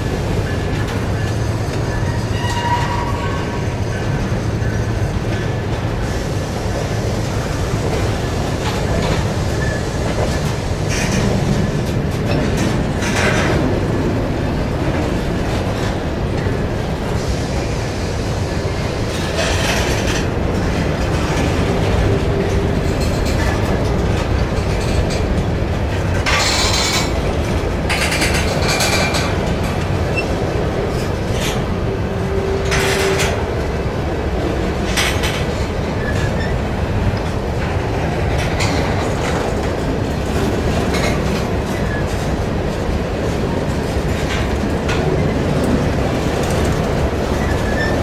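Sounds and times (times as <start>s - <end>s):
steel wheels rumbling on rail: 0.0s - 48.0s.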